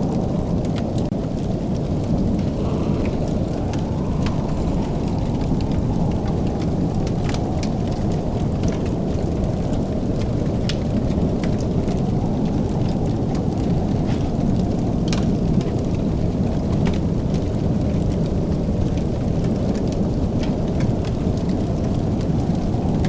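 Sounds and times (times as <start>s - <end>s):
fire crackling and popping: 0.0s - 23.0s
fire low roar: 0.0s - 23.0s.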